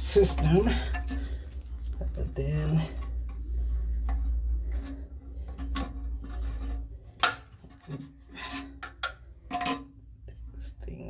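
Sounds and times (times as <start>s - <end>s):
plumbing parts rubbing and scraping: 0.0s - 11.0s.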